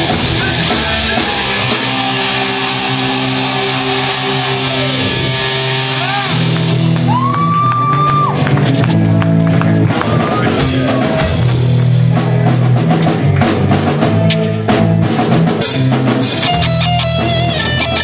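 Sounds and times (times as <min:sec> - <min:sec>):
drum and cymbal hits: 0:00.0 - 0:07.2, 0:09.7 - 0:18.0
rock band playing: 0:00.0 - 0:18.0.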